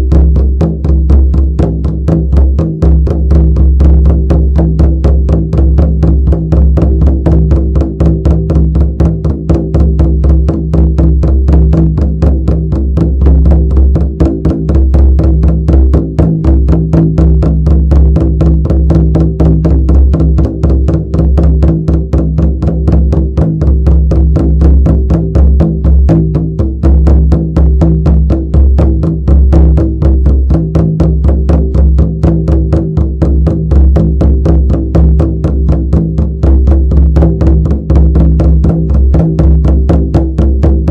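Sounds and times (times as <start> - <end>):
frame drum beating: 0.0 - 40.9.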